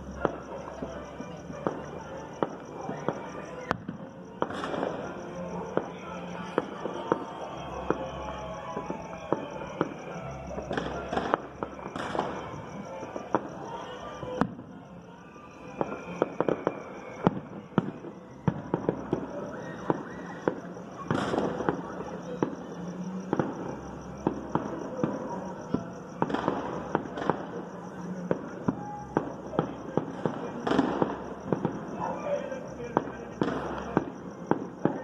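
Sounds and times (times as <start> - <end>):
fireworks popping: 0.0 - 14.7, 15.8 - 35.0
distant music from sound system: 0.0 - 35.0.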